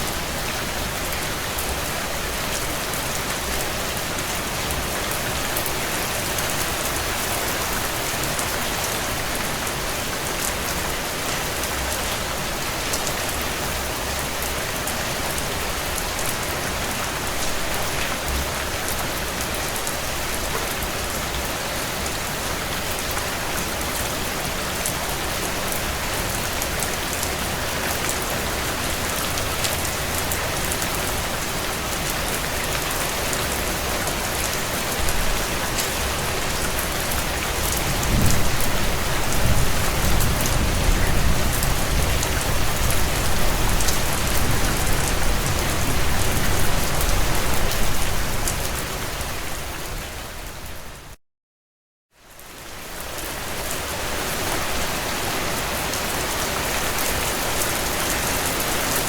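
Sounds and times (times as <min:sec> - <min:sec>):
heavy rain on a tin roof: 0:00.0 - 0:51.2, 0:52.2 - 0:59.0.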